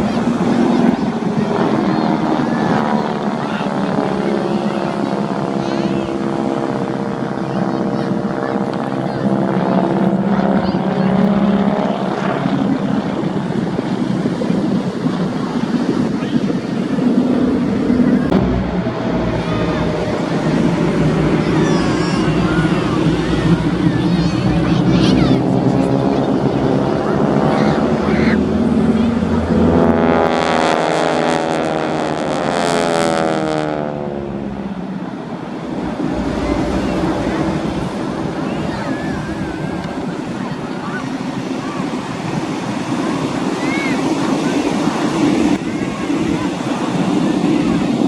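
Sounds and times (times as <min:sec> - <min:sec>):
propeller aircraft flying past: 0:00.0 - 0:48.0.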